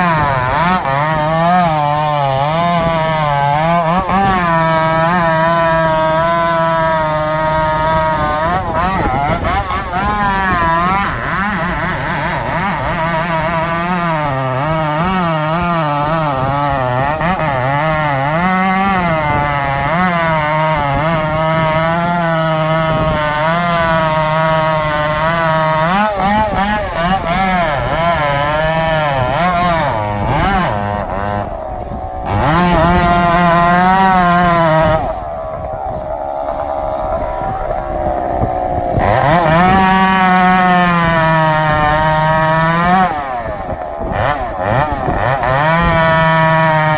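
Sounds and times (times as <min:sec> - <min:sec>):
chainsaw cutting at high revs: 0:00.0 - 0:46.9.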